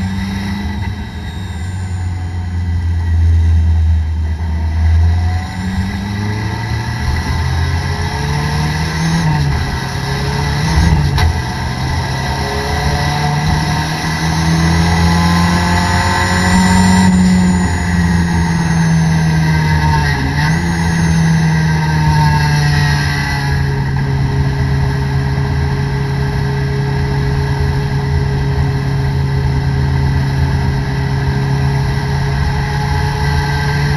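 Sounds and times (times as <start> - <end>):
race car engine from inside cabin: 0.0 - 33.9.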